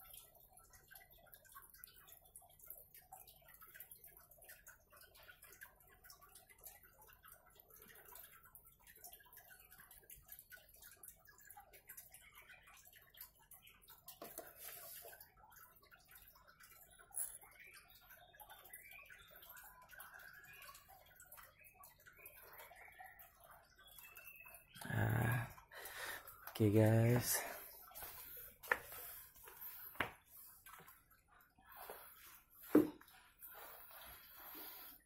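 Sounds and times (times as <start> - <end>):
faint ticks and clicks: 0.0 - 35.0.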